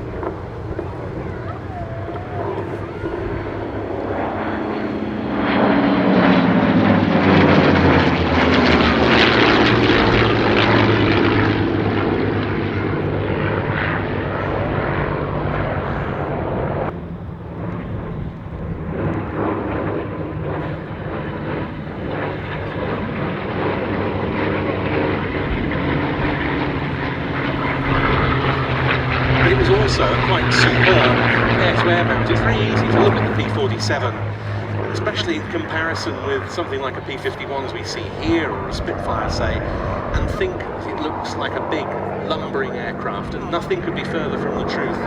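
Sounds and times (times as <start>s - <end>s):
propeller fighter planes flying past: 0.0s - 45.0s.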